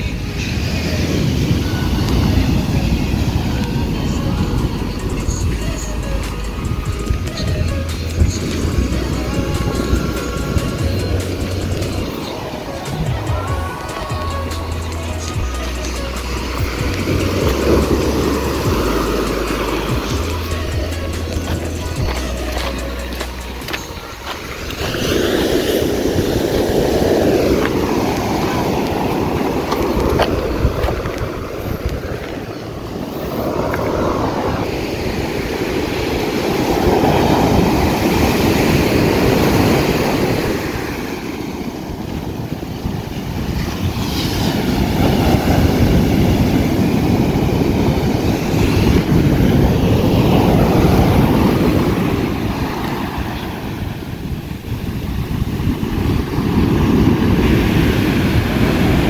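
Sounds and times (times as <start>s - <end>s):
ocean surf breaking on shore: 0.0s - 59.0s.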